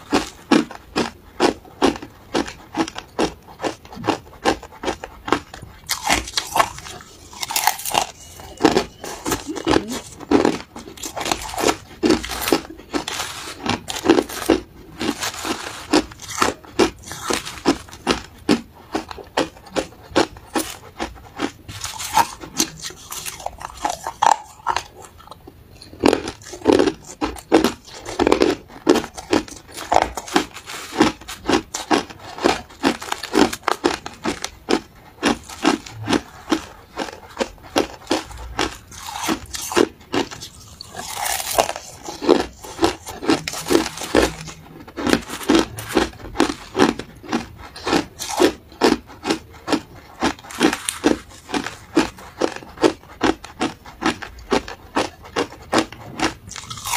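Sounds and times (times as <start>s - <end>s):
crunching ice with teeth: 0.0s - 56.9s.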